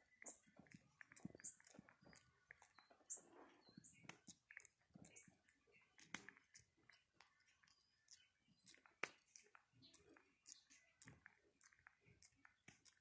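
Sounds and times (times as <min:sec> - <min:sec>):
crackling of fingers through hair: 0:00.0 - 0:13.0.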